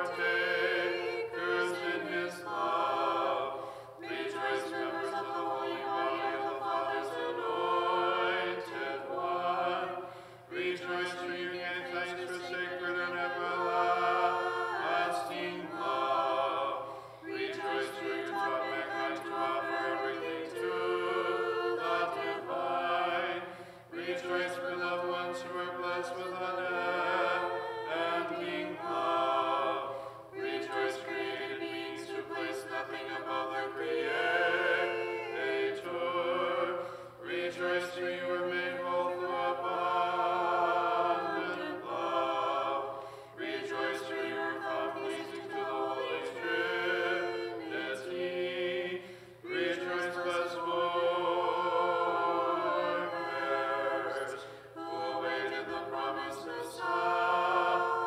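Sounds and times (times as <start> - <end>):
small choir chanting a cappella: 0.0 - 58.0.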